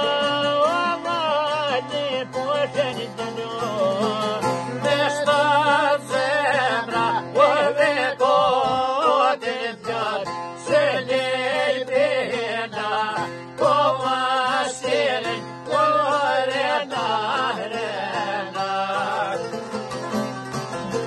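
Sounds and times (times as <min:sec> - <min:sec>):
man singing folk song: 0:00.0 - 0:19.9
plucked lutes playing: 0:00.0 - 0:21.0.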